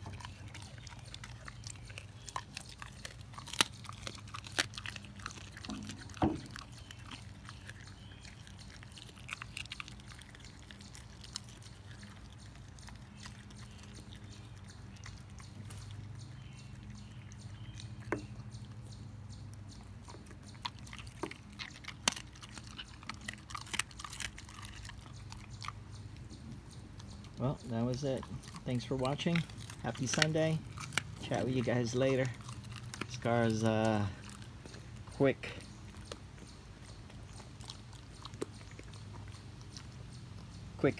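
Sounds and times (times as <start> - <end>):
dog chewing and crunching bone: 0.0 - 40.9.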